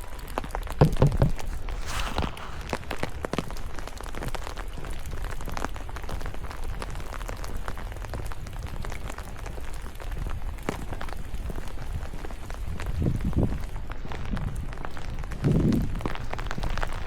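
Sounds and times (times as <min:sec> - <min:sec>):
steady rain: 0:00.0 - 0:17.0
raindrops ticking: 0:02.7 - 0:17.0.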